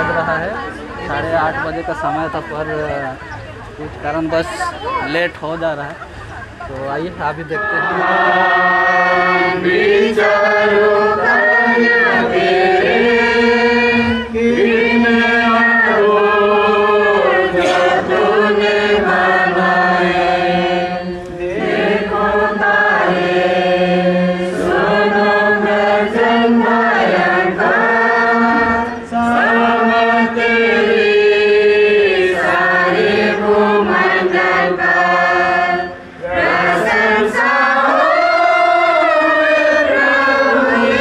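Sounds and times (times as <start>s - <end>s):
congregation singing a hymn: 6.3s - 41.0s.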